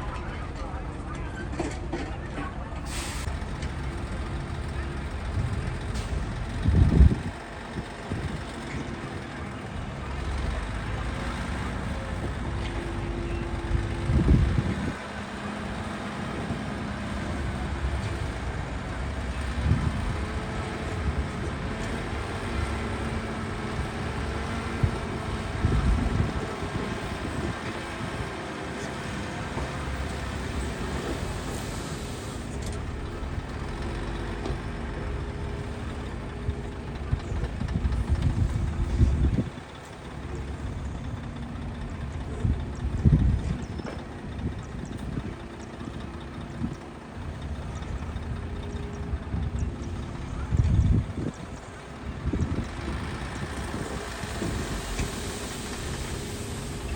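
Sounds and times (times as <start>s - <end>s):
diesel machinery running: 0.0s - 56.9s.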